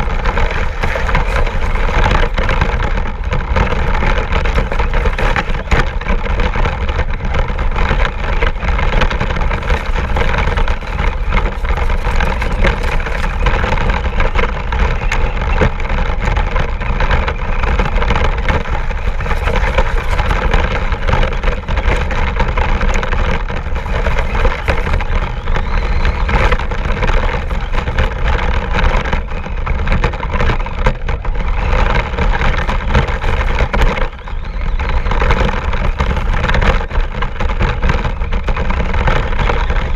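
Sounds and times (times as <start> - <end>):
rc car motor: 0.0 - 39.9.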